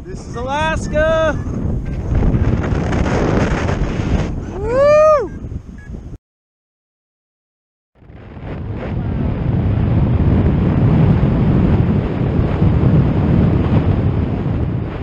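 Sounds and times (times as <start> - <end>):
wind rumble on microphone: 0.0 - 6.2, 8.0 - 15.0.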